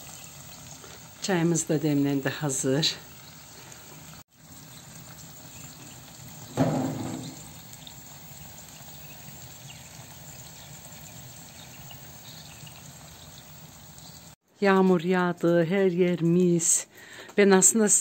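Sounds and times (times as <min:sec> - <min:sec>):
juices sizzling and bubbling: 0:00.0 - 0:15.2.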